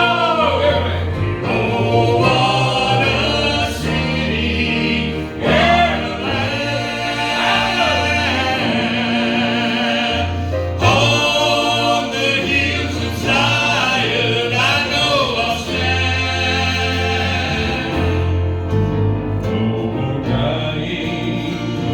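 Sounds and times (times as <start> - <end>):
gospel group singing in harmony: 0.0 - 21.9
instrumental accompaniment: 0.0 - 21.9
steady bass line: 0.0 - 21.9.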